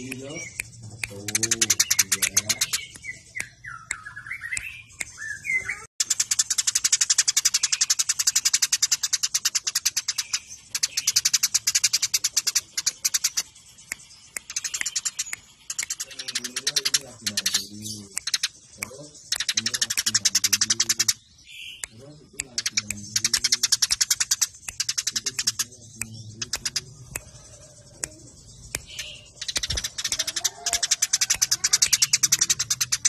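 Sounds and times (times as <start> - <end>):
sparrows chattering: 0.0 - 33.0.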